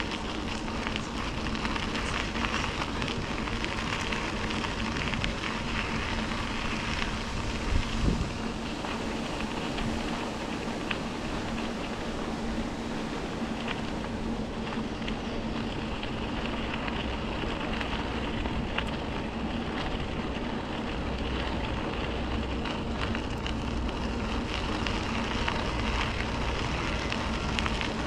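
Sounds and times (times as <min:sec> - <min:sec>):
bicycle tyres rolling on trail: 0:00.0 - 0:28.0
crackles and rattles: 0:00.0 - 0:28.0.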